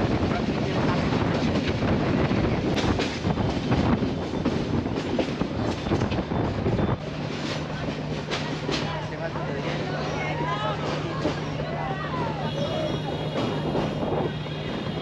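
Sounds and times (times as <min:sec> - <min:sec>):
train carriages rattling: 0:00.0 - 0:15.0.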